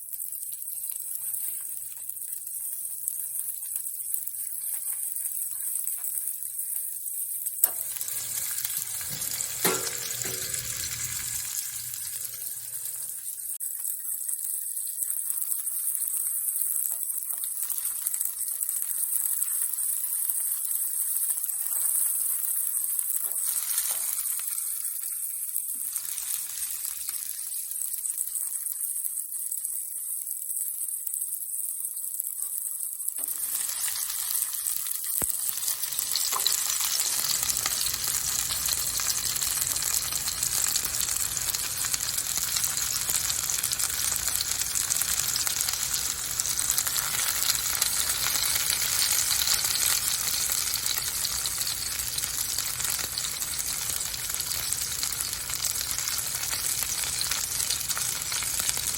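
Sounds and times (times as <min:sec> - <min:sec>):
chicken sizzling in a frying pan: 0:00.0 - 0:58.9.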